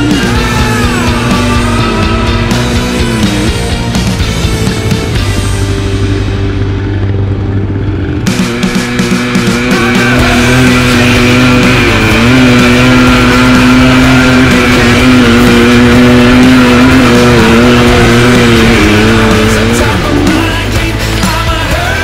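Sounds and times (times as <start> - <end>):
motorbike engine at high revs: 0.0 - 22.0.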